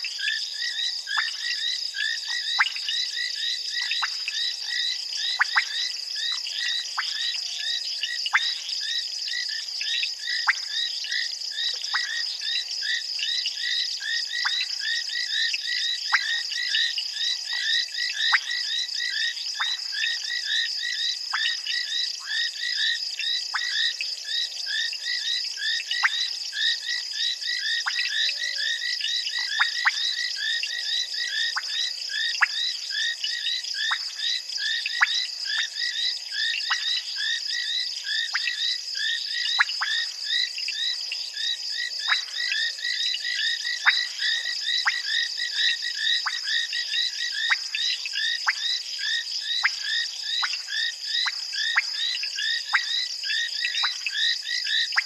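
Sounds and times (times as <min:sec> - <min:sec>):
frogs chirping: 0:00.0 - 0:55.0.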